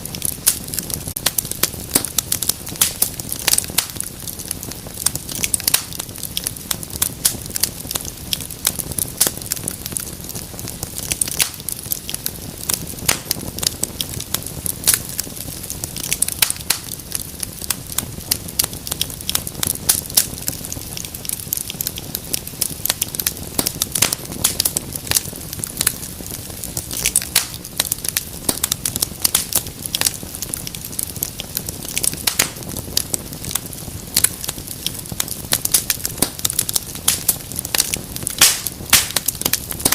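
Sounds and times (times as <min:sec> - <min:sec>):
wood fire crackling: 0:00.0 - 0:39.9
sharp pops and snaps: 0:00.2 - 0:39.9.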